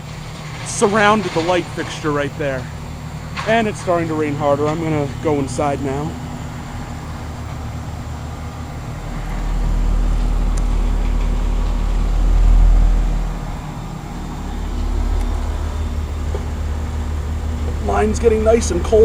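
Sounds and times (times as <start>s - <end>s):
heat pump humming: 0.0s - 19.0s
deep low rumble: 1.3s - 19.0s.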